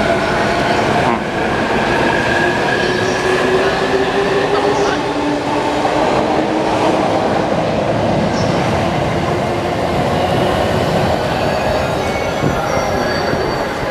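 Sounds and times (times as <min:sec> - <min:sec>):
train wheels rumbling on rails: 0:00.0 - 0:13.9.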